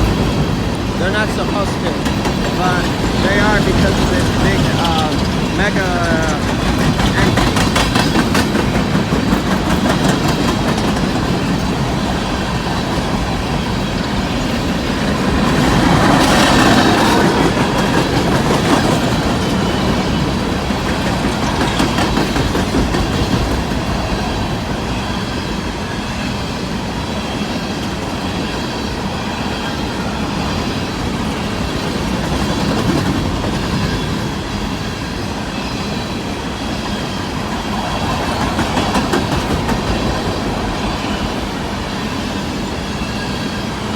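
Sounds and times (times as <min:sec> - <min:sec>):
train cars clickety-clack: 0:00.0 - 0:43.9
train wheels rumbling on rails: 0:00.0 - 0:43.9.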